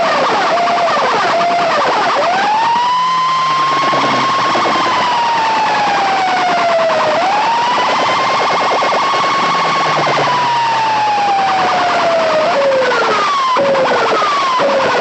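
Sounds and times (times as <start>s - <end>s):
siren-style wail through speakers: 0.0s - 15.0s
fast rattling pulse: 0.6s - 15.0s.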